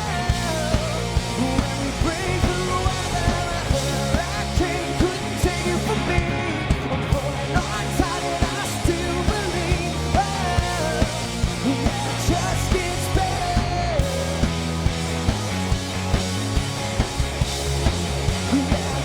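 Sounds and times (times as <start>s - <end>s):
electric guitars: 0.0s - 19.0s.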